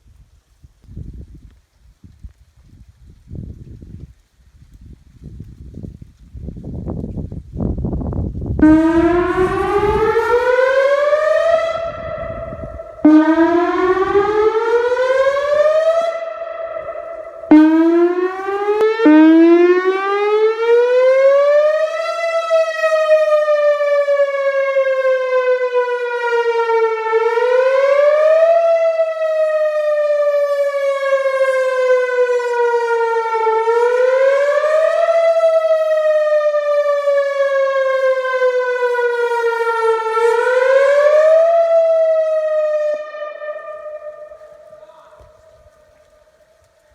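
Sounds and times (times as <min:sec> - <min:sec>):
tornado siren wailing: 0:08.5 - 0:46.9.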